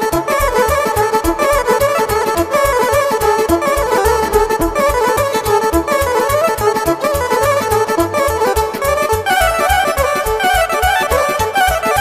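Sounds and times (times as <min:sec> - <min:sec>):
pulsing bass notes: 0:00.1 - 0:12.0
band music with fast beat: 0:00.2 - 0:12.0.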